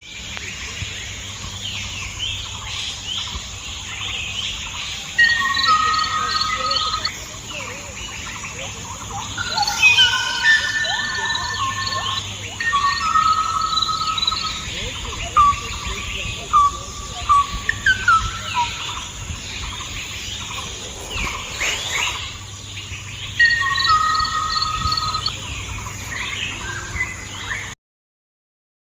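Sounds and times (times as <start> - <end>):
birds chirping: 0.0 - 27.8.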